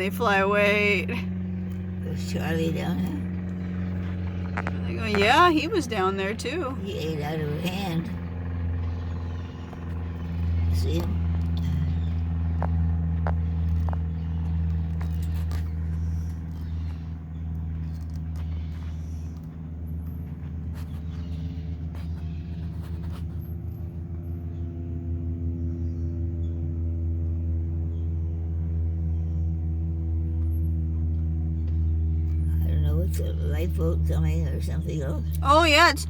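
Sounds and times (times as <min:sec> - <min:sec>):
motor engine humming: 0:00.0 - 0:36.0.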